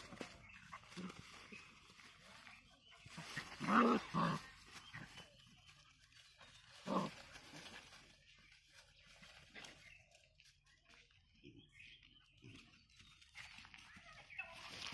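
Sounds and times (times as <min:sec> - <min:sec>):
puppies play-fighting: 0:00.0 - 0:14.9.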